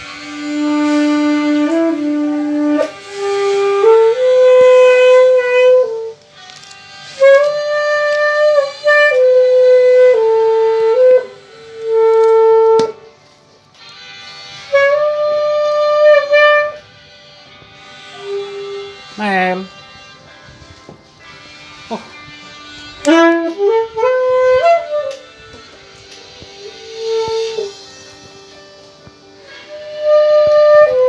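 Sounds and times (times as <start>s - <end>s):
saxophone melody: 0.0s - 31.0s.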